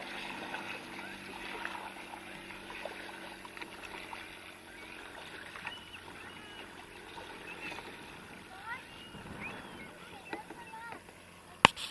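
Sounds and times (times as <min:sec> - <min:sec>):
small splashes: 0:00.0 - 0:11.2
paddle dipping in water: 0:00.0 - 0:11.9
water lapping against hull: 0:00.0 - 0:11.9.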